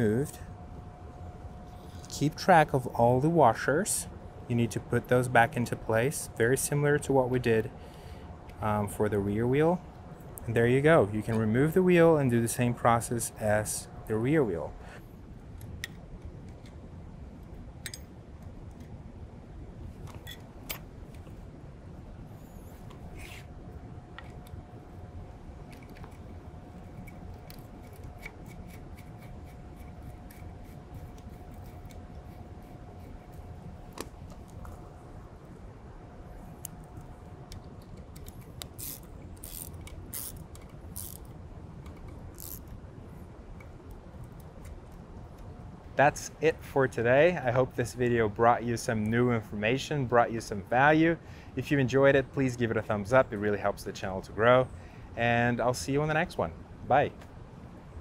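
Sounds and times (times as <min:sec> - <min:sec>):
low steady background noise: 0:00.0 - 0:58.0.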